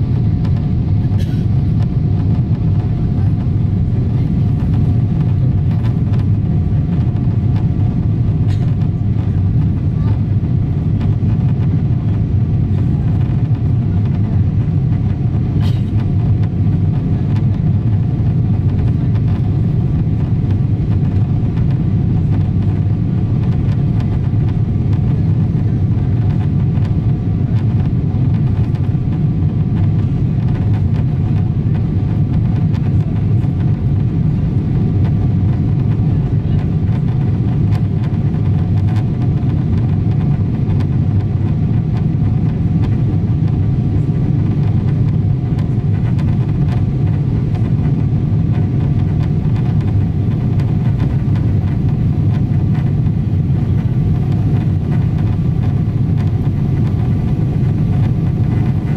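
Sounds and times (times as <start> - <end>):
aircraft engines rumbling: 0.0 - 58.9.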